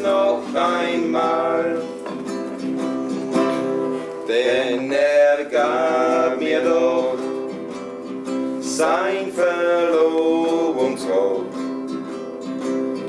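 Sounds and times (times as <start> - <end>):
acoustic guitar strumming: 0.0 - 13.0
man singing folk song: 0.0 - 13.0.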